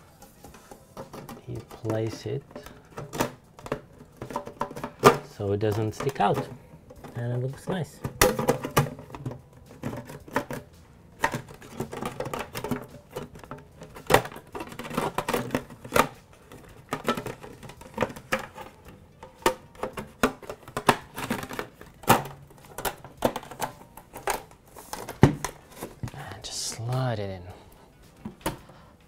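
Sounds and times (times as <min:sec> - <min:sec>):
clicks and knocks of enclosure: 0:00.2 - 0:26.2.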